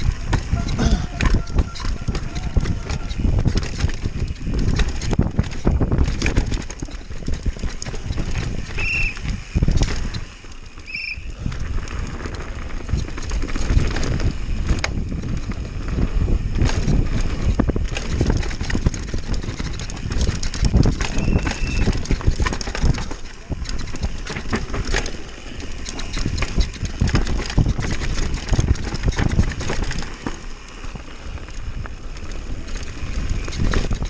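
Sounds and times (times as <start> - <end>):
bike rattling over bumps: 0.0 - 34.0
tyre and wind rumble: 0.0 - 34.0.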